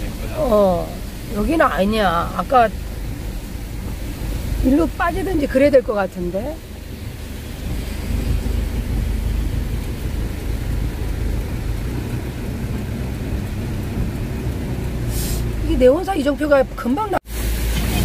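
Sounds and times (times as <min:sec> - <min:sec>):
rain on car: 0:00.0 - 0:18.0
road and engine rumble: 0:00.0 - 0:18.0
tyres hissing on wet road: 0:00.0 - 0:18.0.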